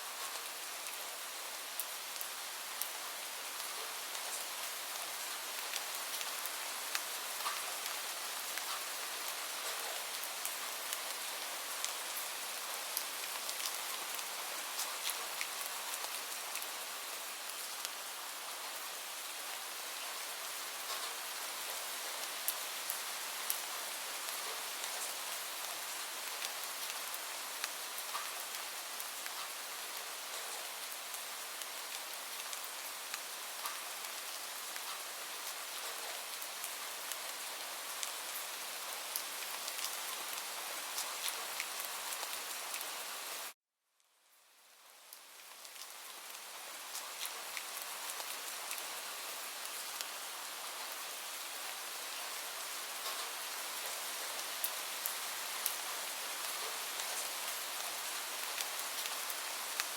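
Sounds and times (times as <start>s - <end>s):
steady rain hiss: 0.0s - 59.9s
raindrops ticking on surface: 1.8s - 16.8s, 20.8s - 43.6s, 44.3s - 59.9s.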